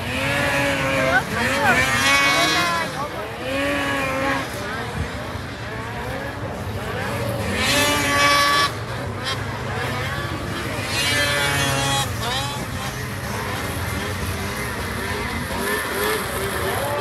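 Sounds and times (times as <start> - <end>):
snowmobile engines revving: 0.0 - 17.0.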